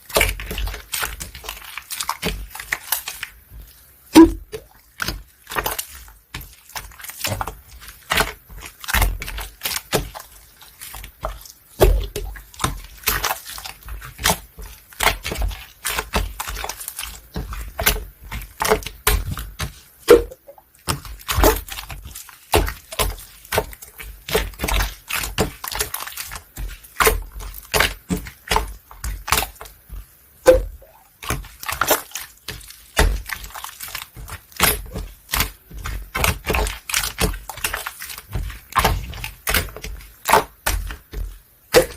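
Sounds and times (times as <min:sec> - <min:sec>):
slime squelching: 0:00.0 - 0:41.9.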